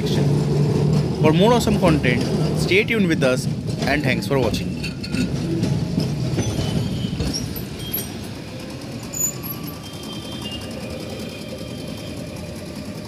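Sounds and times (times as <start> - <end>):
low rumble of road vehicles: 0.0 - 13.0.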